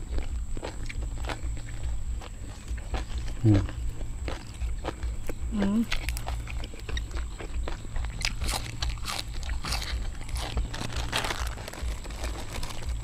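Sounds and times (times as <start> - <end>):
crunching and chewing beans: 0.0 - 13.0.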